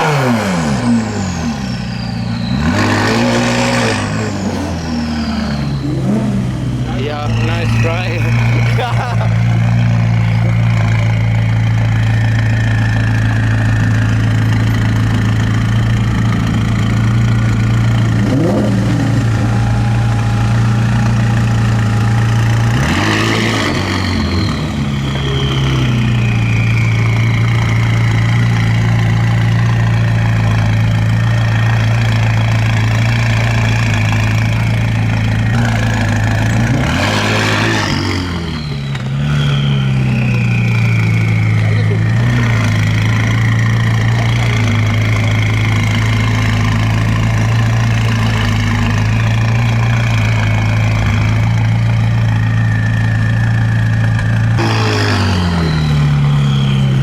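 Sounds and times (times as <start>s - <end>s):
car engine revving: 0.0s - 57.0s
high turbo whistle: 0.0s - 57.0s.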